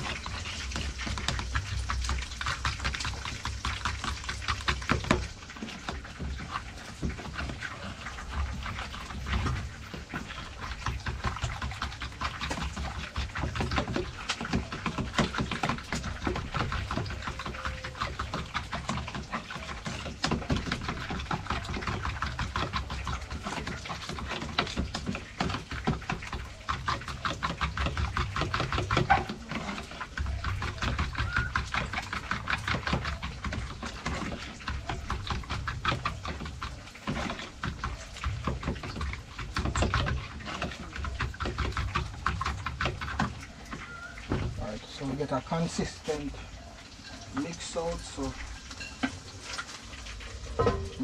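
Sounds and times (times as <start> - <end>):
food being mixed in a bowl: 0.0 - 51.0.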